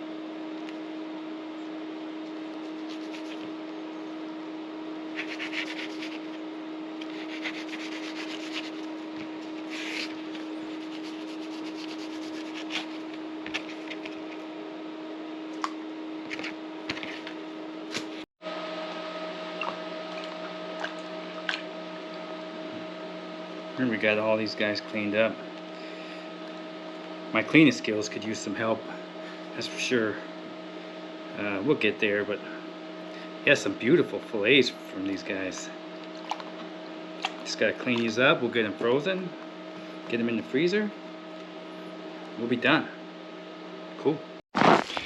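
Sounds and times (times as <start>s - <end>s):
steady mechanical hum: 0.0s - 45.0s.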